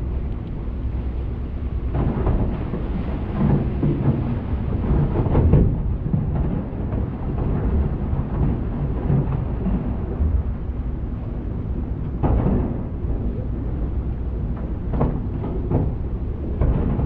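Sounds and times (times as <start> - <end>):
ferry engine low rumble: 0.0 - 17.0.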